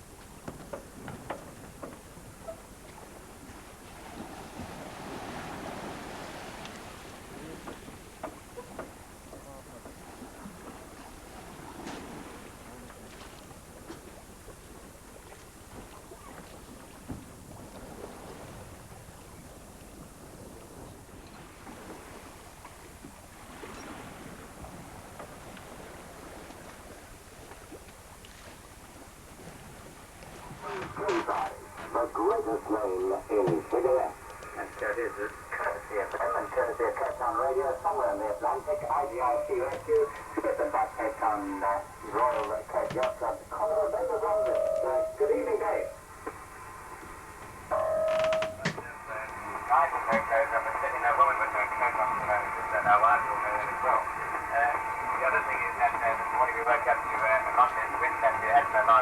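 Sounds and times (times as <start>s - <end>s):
water rushing along hull: 0.0s - 59.0s.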